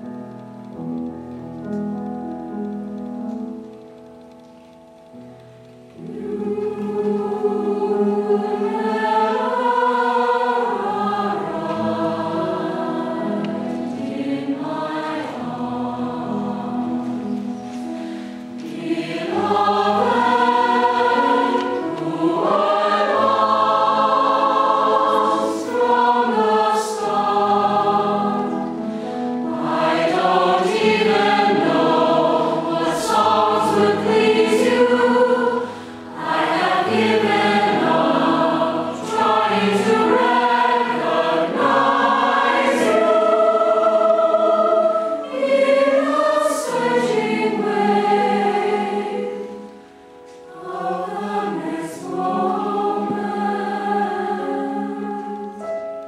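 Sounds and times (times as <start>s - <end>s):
choir singing sustained chords: 6.0s - 55.8s.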